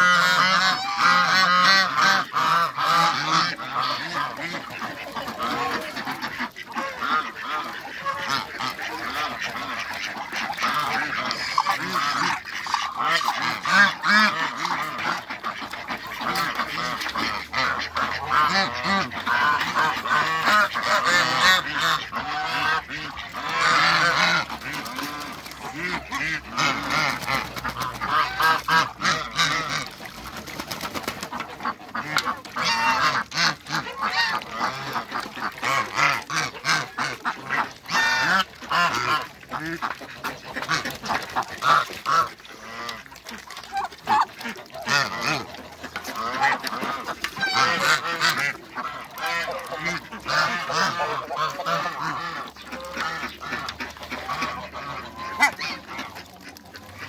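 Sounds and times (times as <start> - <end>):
geese honking: 0.0 - 30.2, 31.3 - 57.0
bills splashing in metal basin: 0.0 - 57.0
ducks quacking: 0.0 - 57.0.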